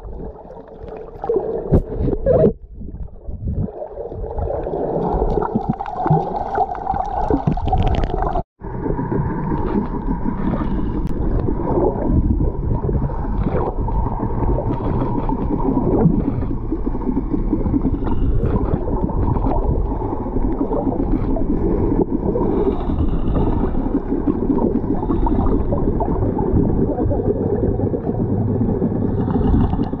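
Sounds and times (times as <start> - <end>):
bubbles crackling: 0.0 - 30.0
underwater rumble and gurgling: 0.0 - 30.0.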